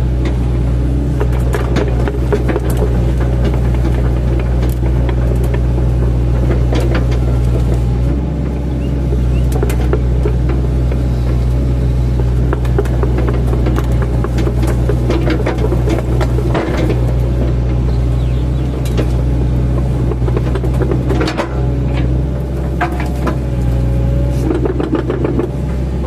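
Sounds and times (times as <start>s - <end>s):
excavator diesel engine: 0.0s - 26.0s.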